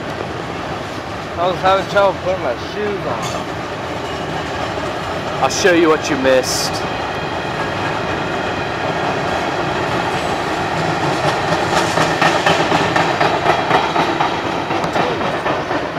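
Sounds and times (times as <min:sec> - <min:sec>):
freight train wheels rumbling on rail: 0:00.0 - 0:15.9
wheels clicking over rail joints: 0:01.5 - 0:15.9.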